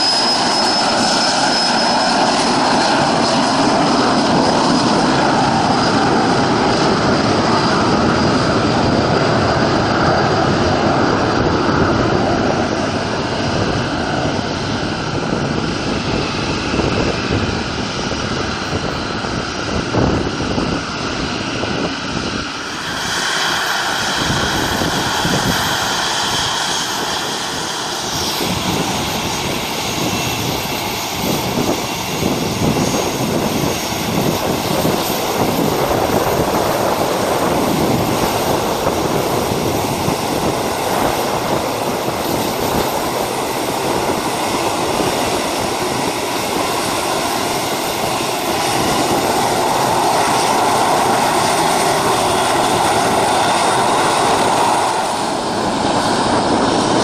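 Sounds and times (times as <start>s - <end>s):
aircraft engines: 0.0s - 57.0s.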